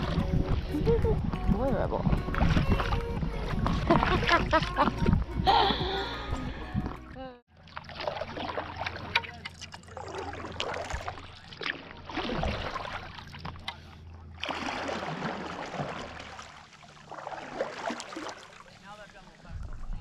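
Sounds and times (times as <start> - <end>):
paddle splashing through water: 0.0 - 20.0.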